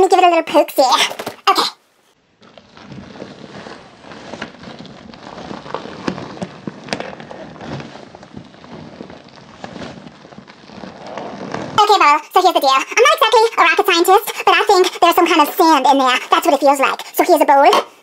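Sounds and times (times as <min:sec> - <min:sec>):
sand crackling inside balloon: 0:00.8 - 0:17.6
rubber rubbing: 0:02.2 - 0:17.3.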